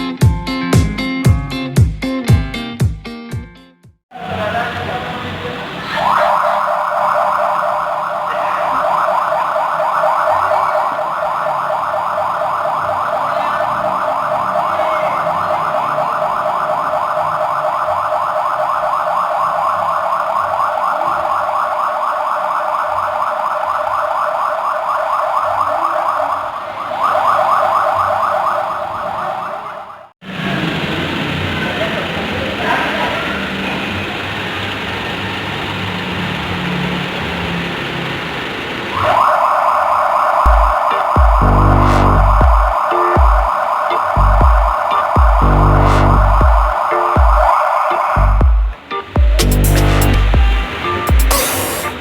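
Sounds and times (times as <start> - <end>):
police siren warbling: 4.2 - 52.0.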